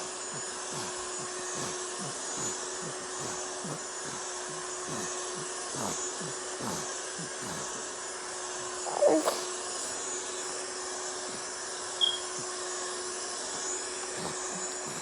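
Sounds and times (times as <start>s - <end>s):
vacuum cleaner whooshing: 0.0s - 15.0s.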